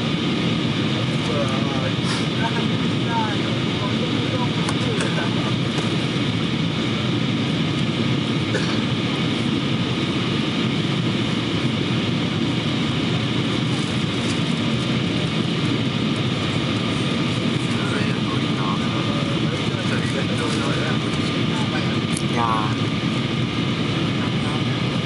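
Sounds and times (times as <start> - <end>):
airplane cabin roar: 0.0 - 25.0.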